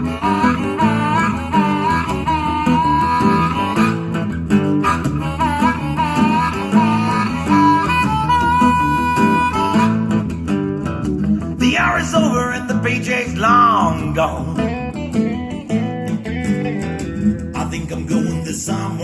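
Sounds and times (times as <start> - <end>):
blues-rock music over speakers: 0.0 - 19.0.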